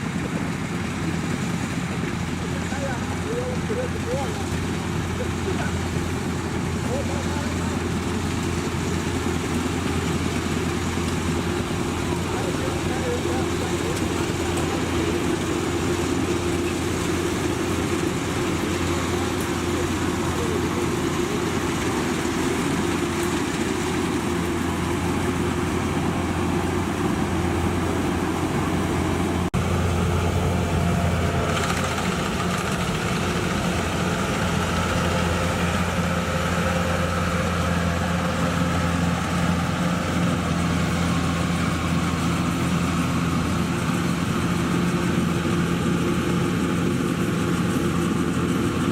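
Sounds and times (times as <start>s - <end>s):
combine harvester engine and machinery: 0.0s - 48.9s.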